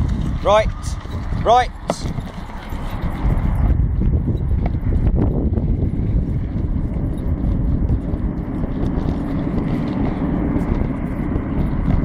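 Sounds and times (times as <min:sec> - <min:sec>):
wheels rolling over tarmac: 0:00.0 - 0:12.0.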